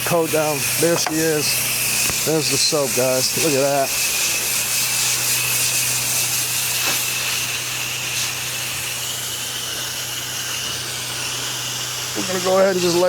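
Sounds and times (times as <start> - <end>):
pressure washer spraying hiss: 0.0 - 13.0.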